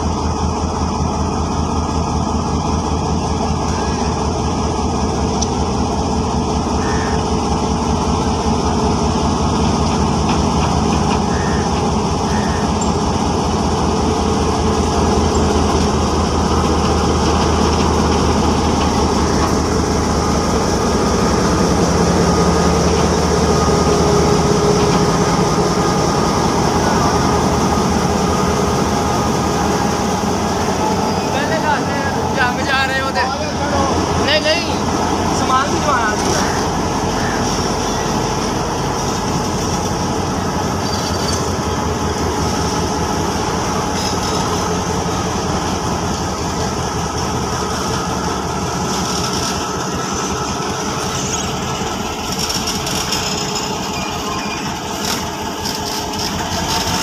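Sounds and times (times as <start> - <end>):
locomotive engine low throb: 0.0 - 57.0.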